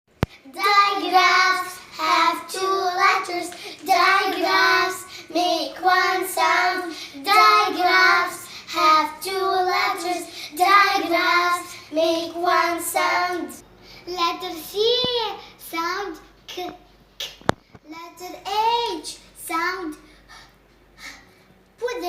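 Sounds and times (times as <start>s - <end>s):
child singing unaccompanied: 0.2s - 17.3s, 17.9s - 20.0s.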